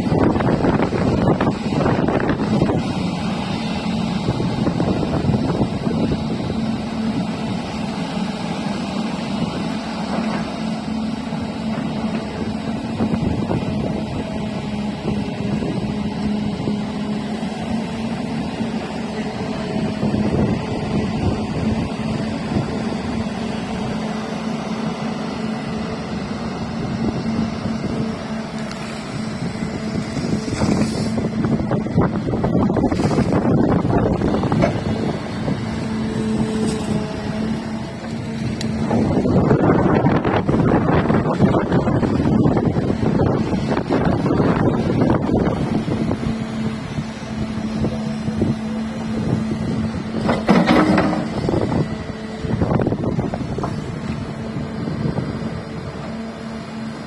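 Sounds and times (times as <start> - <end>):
excavator diesel engine humming: 0.0 - 57.0.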